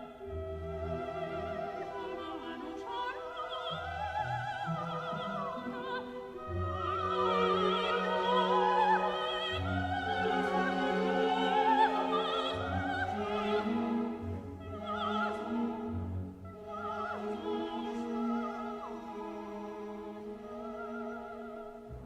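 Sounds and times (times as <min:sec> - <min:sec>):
orchestral strings: 0:00.0 - 0:22.0.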